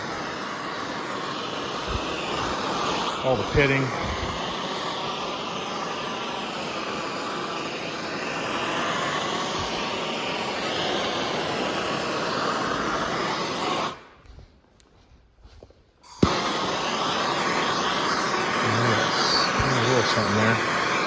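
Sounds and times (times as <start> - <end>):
heating tool blowing roar: 0.0 - 14.4, 16.0 - 21.0.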